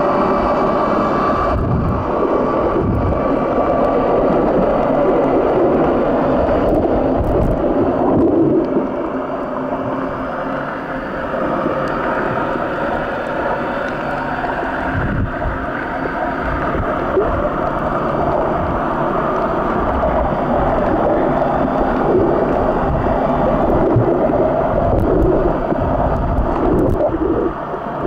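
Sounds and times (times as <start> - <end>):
underwater rushing water: 0.0 - 28.0.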